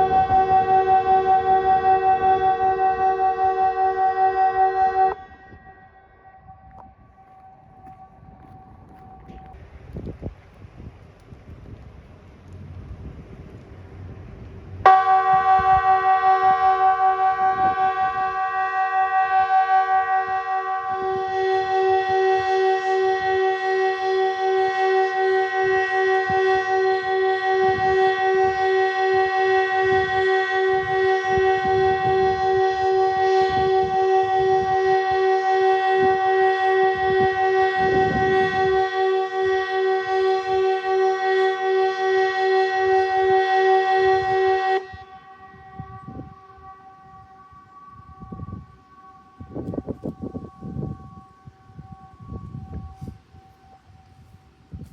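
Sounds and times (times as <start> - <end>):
electronic siren pulsing tone: 0.0 - 9.6, 14.8 - 54.9
wind rumble on microphone: 0.0 - 54.9.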